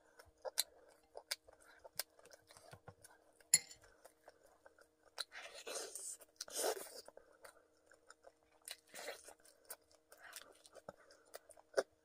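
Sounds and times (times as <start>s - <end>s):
chewing and crunching fried chicken: 0.0s - 12.0s.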